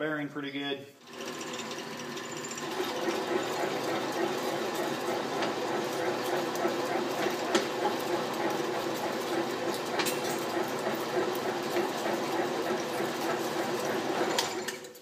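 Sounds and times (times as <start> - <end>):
drill press droning: 1.0 - 15.0.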